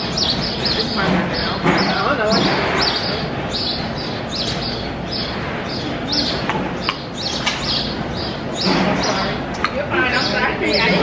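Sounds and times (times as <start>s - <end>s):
small bird chirping: 0.0s - 11.0s
steady background din: 0.0s - 11.0s.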